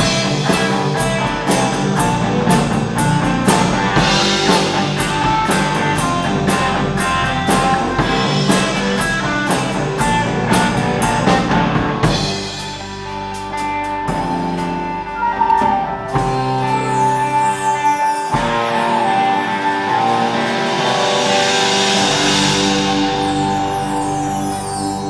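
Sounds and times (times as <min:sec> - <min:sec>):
drum kit beat: 0:00.0 - 0:17.7, 0:18.3 - 0:25.0
rock band playing: 0:00.0 - 0:25.0.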